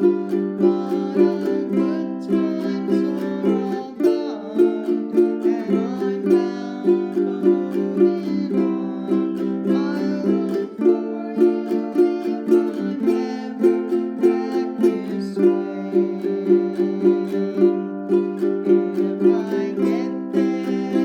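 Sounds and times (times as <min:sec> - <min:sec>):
ukulele strumming: 0:00.0 - 0:21.0.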